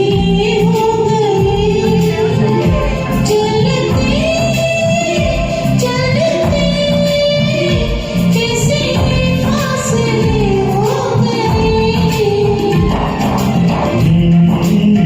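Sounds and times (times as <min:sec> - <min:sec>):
backing track with steady beat: 0:00.0 - 0:15.0
woman singing: 0:00.0 - 0:15.0.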